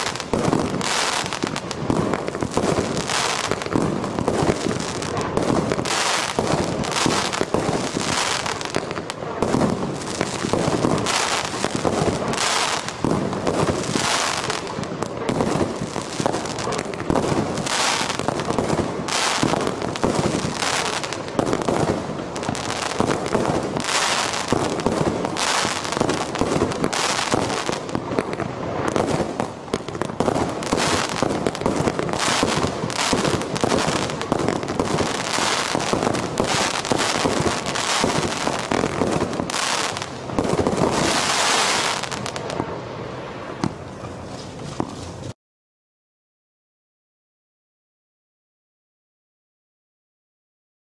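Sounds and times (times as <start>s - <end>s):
fireworks shots and bursts: 0.0s - 43.9s.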